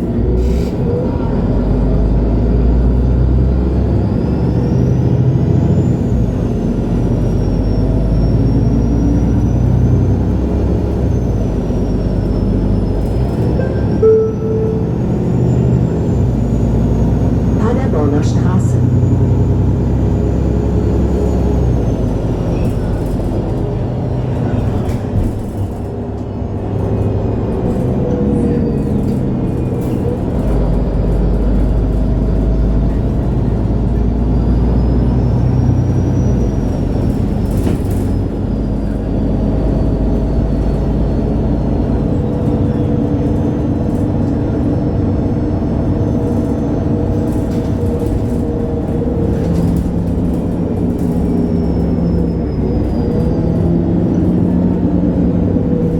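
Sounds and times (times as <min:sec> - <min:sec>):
bus diesel engine rumble: 0:00.0 - 0:55.9
high drivetrain whine: 0:00.0 - 0:55.9.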